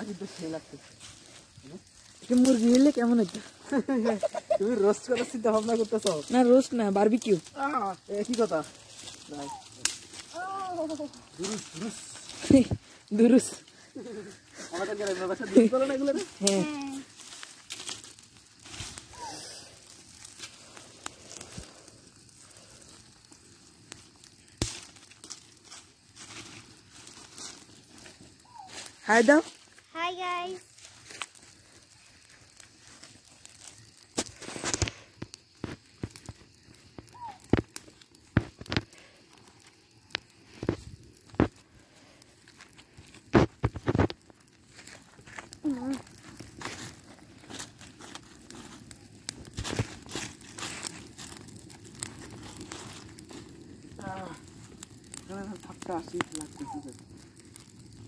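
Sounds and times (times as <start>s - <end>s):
campfire crackling: 0.0s - 58.0s
sharp pops and snaps of sticks: 5.5s - 29.8s, 30.6s - 58.0s.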